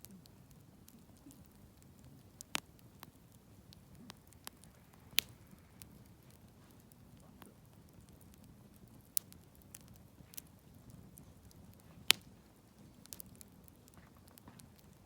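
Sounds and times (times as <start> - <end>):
campfire crackling: 0.0 - 15.0
low rumble of flames: 0.0 - 15.0.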